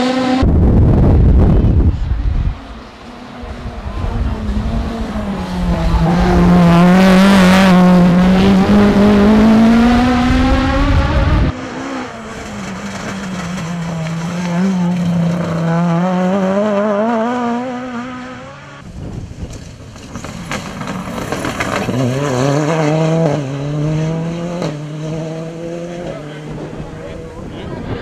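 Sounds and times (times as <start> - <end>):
rally car engine accelerating: 0.0 - 18.9, 20.0 - 28.0
car passing rush: 0.0 - 28.0
steady car engine: 0.0 - 28.0.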